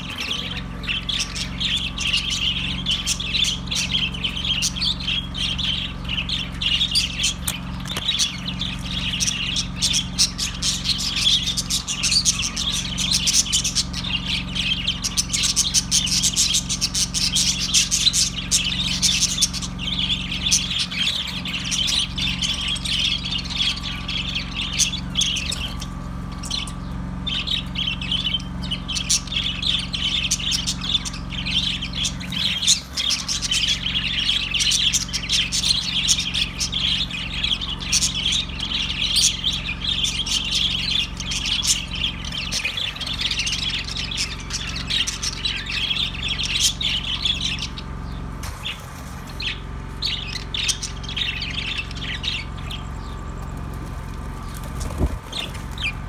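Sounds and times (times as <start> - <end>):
budgerigars chirping and chattering: 0.0 - 56.0
steady low hum: 0.0 - 56.0.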